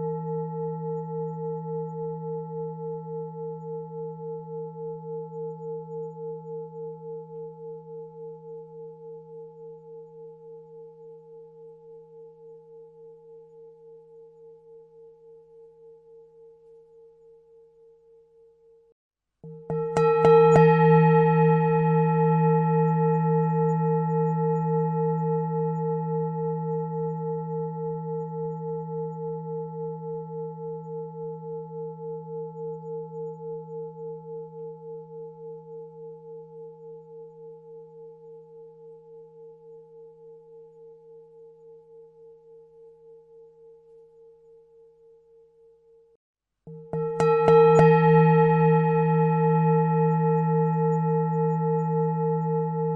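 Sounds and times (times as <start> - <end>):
singing bowl ringing: 0.0 - 18.9, 19.5 - 52.9.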